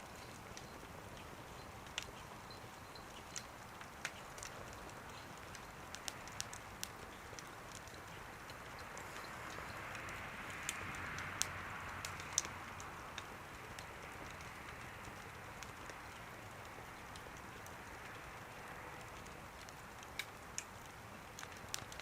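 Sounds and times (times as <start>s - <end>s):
wood fire crackling in a stove: 0.0s - 22.0s.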